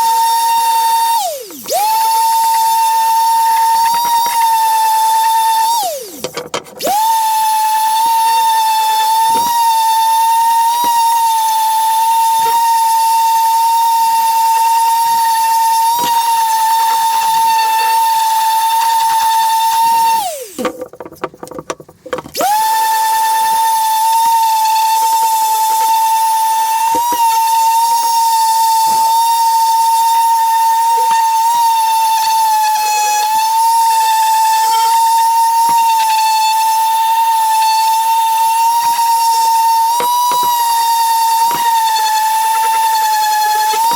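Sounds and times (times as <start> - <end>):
power tool motor whining: 0.0 - 20.8, 22.2 - 43.9.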